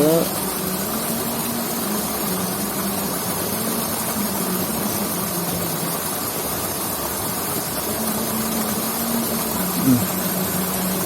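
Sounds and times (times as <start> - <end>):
faint wavering hum: 0.0 - 11.0
water rushing in a ditch: 0.0 - 11.0.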